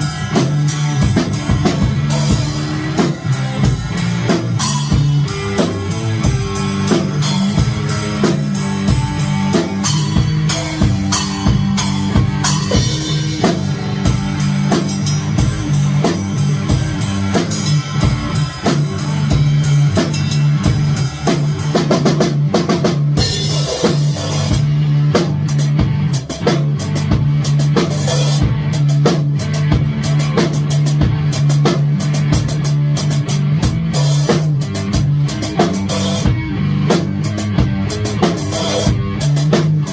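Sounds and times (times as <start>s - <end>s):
drum kit steady beat: 0.0s - 39.9s
low guitar or bass notes: 0.0s - 39.9s.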